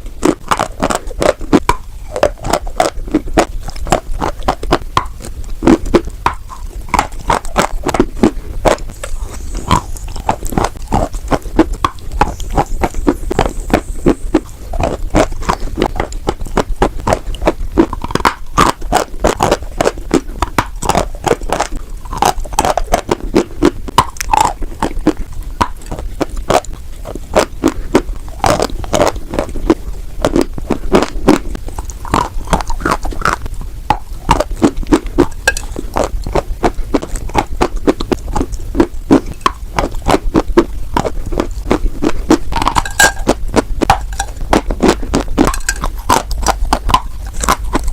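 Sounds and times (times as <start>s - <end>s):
chalk being crunched and chewed: 0.0s - 47.9s.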